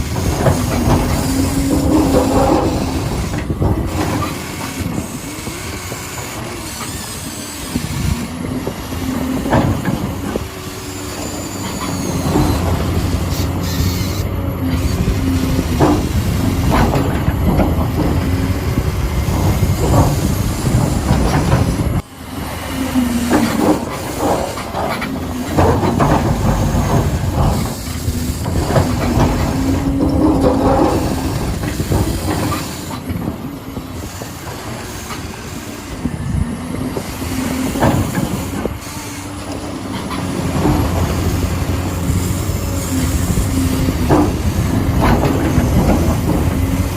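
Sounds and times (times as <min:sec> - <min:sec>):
small electric gear motors whining: 0:00.0 - 0:46.9.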